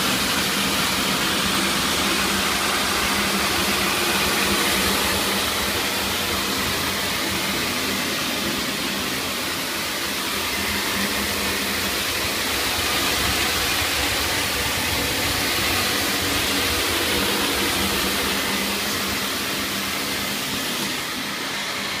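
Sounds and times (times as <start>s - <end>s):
cleaning machine whooshing hum: 0.0s - 22.0s
low steady drone: 0.0s - 22.0s.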